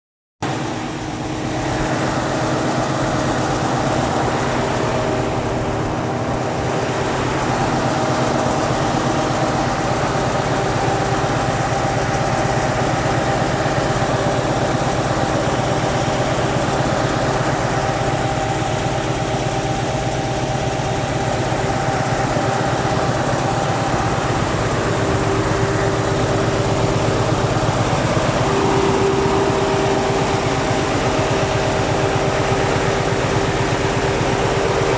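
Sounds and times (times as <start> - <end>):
diesel engine running: 0.4 - 34.9.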